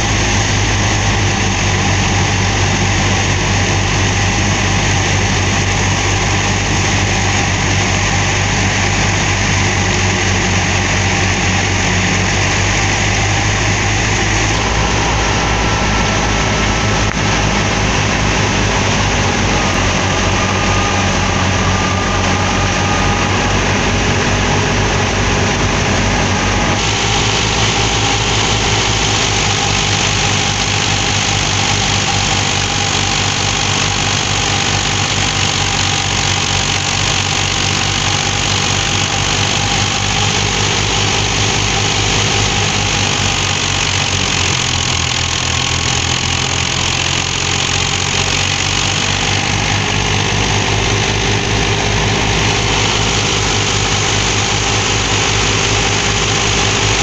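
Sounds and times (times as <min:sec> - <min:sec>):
thresher rushing noise: 0:00.0 - 0:57.0
tractor engine running under load: 0:00.0 - 0:57.0.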